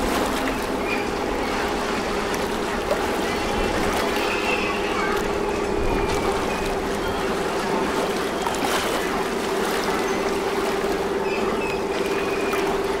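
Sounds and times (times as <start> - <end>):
boat engine humming: 0.0 - 13.0
water rushing: 0.0 - 13.0.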